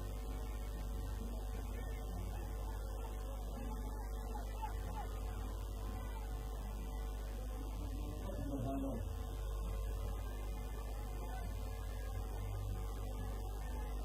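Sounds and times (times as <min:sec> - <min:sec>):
faint music: 0:00.0 - 0:14.0
low electrical hum: 0:00.0 - 0:14.0.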